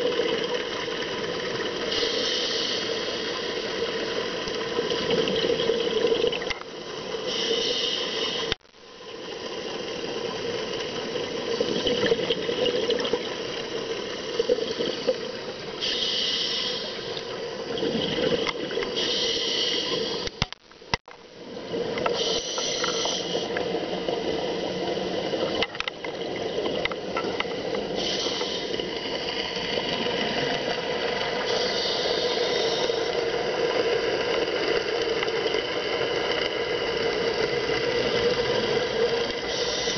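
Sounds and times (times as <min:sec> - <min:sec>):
exhaled air bubbling: 0:00.0 - 0:08.6, 0:10.3 - 0:20.5, 0:21.4 - 0:39.9
regulator air hiss underwater: 0:00.0 - 0:20.4, 0:21.4 - 0:39.9.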